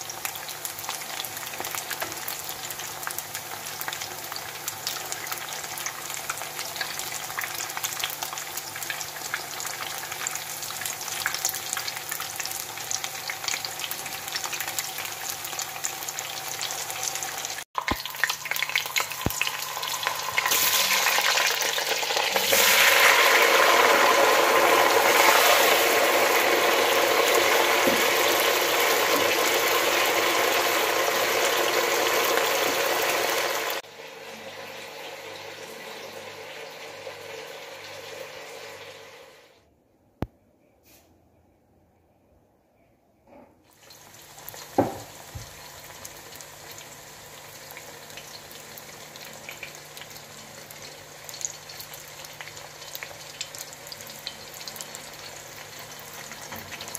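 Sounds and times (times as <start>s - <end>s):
patties sizzling in pan: 0.0s - 39.5s, 43.7s - 56.9s
potatoes frying in deep oil: 0.0s - 39.5s, 43.7s - 56.9s.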